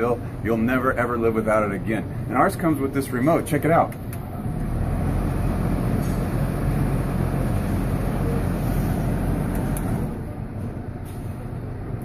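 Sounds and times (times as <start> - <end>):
fan rushing air with low rumble: 0.0 - 12.0.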